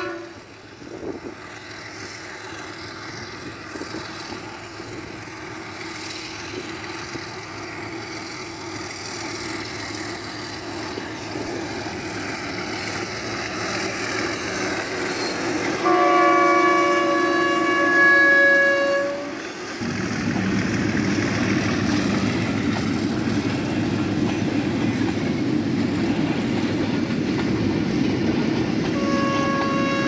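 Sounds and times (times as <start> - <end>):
diesel locomotive engines running: 0.0 - 30.0
train wheels rumbling on rails: 0.0 - 30.0.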